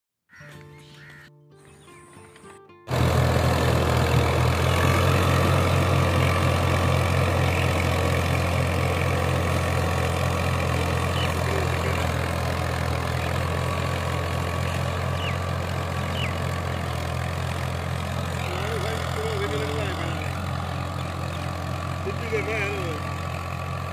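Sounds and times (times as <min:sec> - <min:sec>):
tractor diesel engine running: 0:01.8 - 0:23.9.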